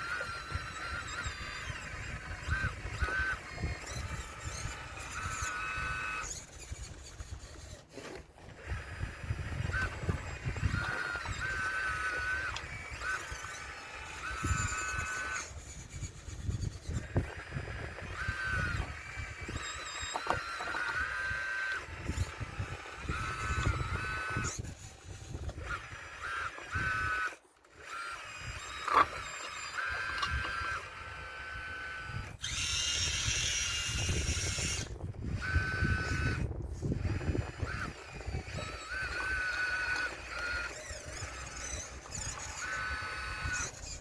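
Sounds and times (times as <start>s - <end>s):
hydraulic pump whining: 0.0s - 44.0s.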